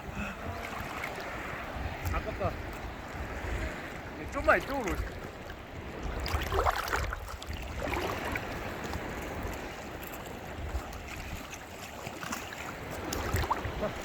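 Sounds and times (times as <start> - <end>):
surf washing in shallows: 0.0 - 14.0
wind rumbling on microphone: 0.0 - 14.0.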